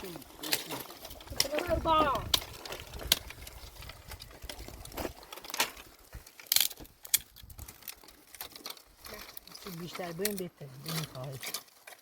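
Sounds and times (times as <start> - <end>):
dry twigs crunching and snapping: 0.0 - 12.0.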